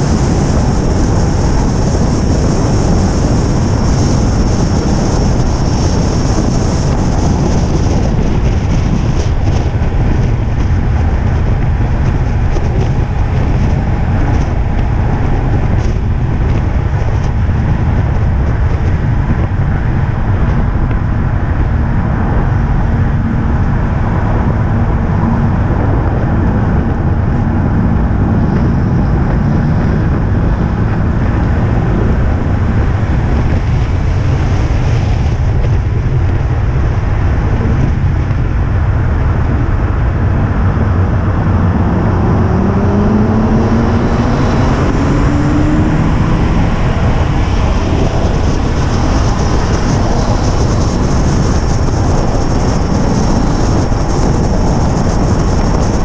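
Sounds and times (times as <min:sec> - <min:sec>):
race car engine running: 0:00.0 - 0:56.0
tyres rumbling on wet tarmac: 0:00.0 - 0:56.0
wind: 0:00.0 - 0:56.0.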